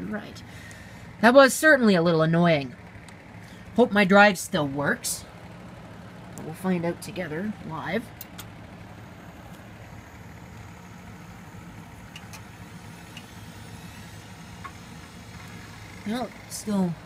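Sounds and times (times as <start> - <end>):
computer fans humming: 0.0 - 17.0.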